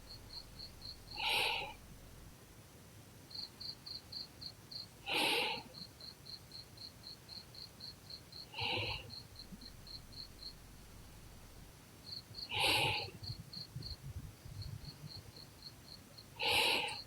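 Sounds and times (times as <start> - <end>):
insect chirping: 0.0 - 2.2, 5.5 - 17.0.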